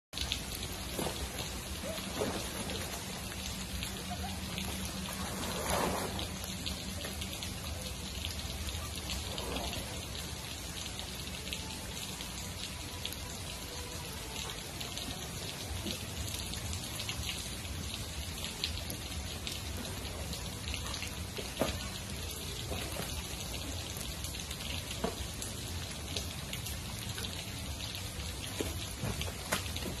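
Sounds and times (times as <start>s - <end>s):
steady rain falling: 0.1s - 30.0s.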